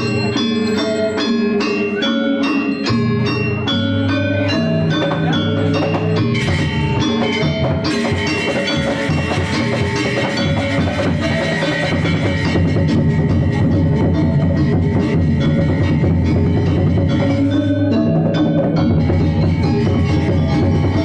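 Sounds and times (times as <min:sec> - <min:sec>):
cymbals: 0:00.0 - 0:21.0
drums: 0:00.0 - 0:21.0
metallophones struck quickly: 0:00.0 - 0:21.0.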